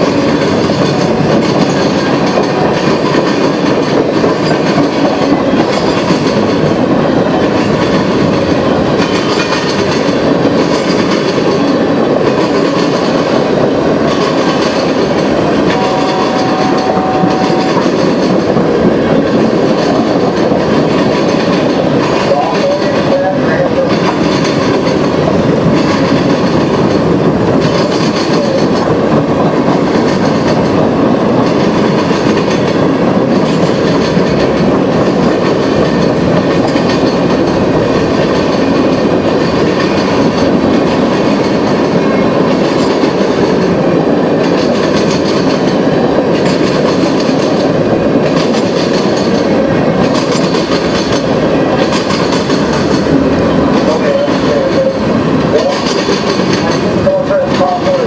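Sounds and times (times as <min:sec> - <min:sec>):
train wheels rumbling on rail: 0:00.0 - 0:58.0
wheels clickety-clack over rail joints: 0:00.0 - 0:58.0.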